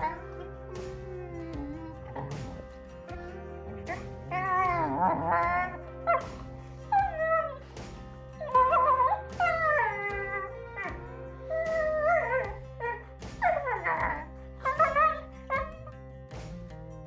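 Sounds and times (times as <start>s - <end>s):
dog whining and yowling: 0.0s - 2.8s, 3.8s - 7.6s, 8.4s - 15.9s
background music: 0.0s - 17.0s.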